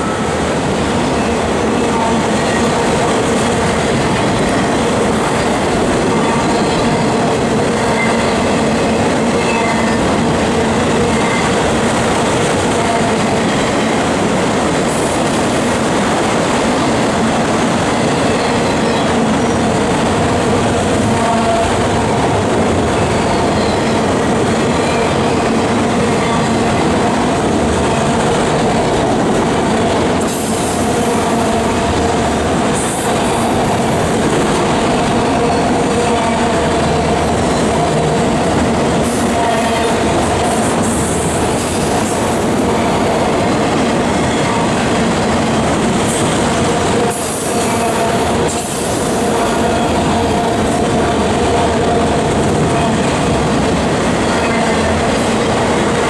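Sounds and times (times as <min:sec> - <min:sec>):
freight train wheels roaring on rails: 0:00.0 - 0:56.0.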